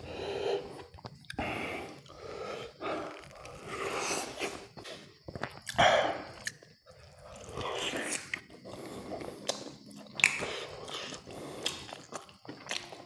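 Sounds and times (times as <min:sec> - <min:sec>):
chewing and crunching fried chicken: 0:00.6 - 0:13.0.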